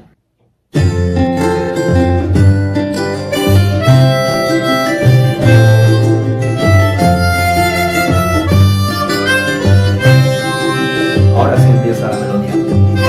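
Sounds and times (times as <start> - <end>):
acoustic guitar and bass: 0.0 - 13.0
harmonica: 0.9 - 13.0.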